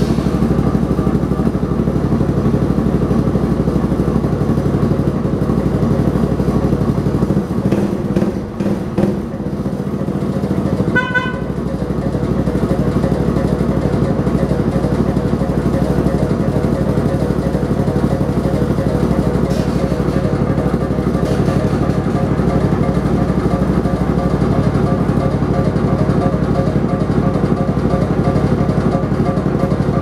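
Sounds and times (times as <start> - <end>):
scooter engine idling: 0.0 - 30.0.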